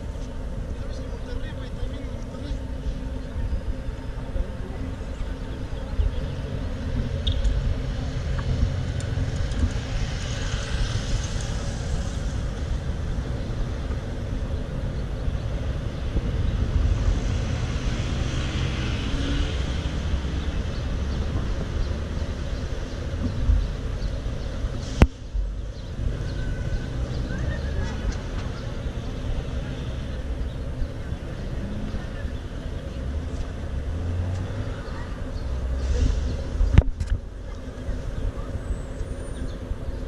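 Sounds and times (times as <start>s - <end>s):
cars passing: 0.0s - 40.0s
road traffic rumble: 0.0s - 40.0s.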